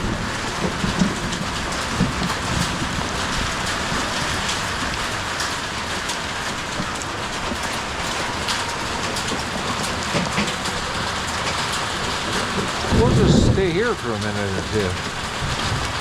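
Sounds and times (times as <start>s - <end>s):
hail and rain falling hard: 0.0s - 16.0s.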